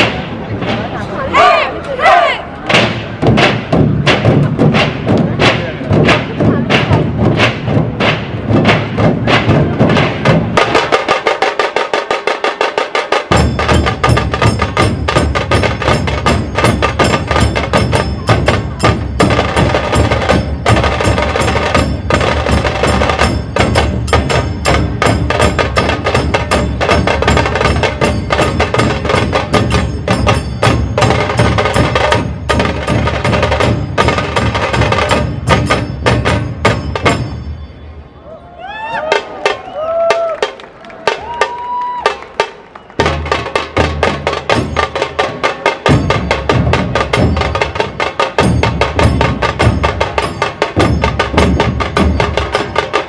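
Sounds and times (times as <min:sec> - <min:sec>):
deep dhol drum beats: 0:02.7 - 0:37.7, 0:41.1 - 0:53.0.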